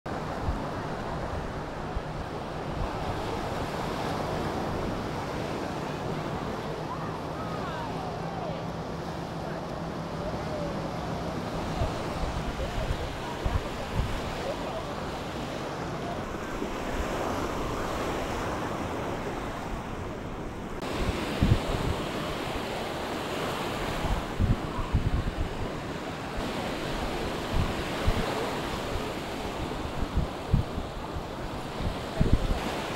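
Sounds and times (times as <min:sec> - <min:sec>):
surf washing: 0:00.1 - 0:32.9
wind on microphone: 0:00.1 - 0:32.9.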